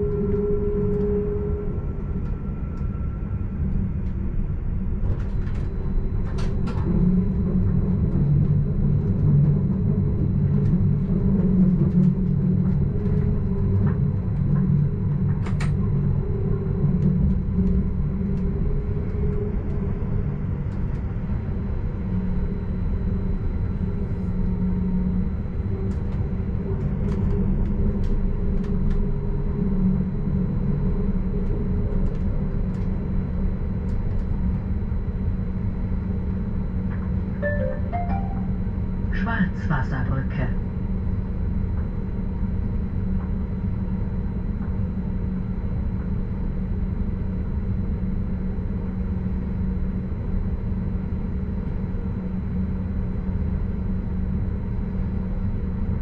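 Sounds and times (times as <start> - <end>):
train drive hum: 0.0 - 56.0.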